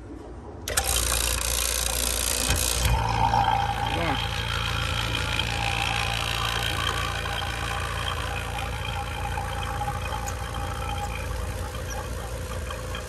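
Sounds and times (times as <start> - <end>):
vacuum pump running: 0.7 - 13.0.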